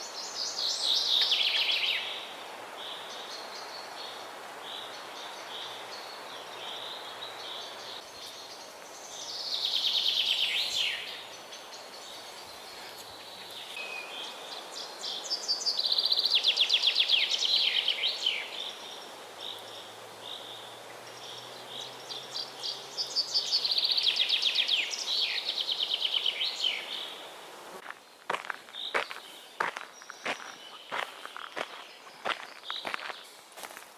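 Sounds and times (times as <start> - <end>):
steady background hiss: 0.0 - 33.9.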